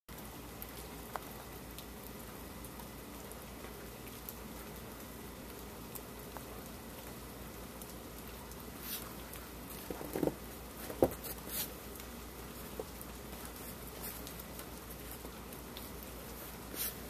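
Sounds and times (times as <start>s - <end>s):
faint steady hiss: 0.1s - 17.0s.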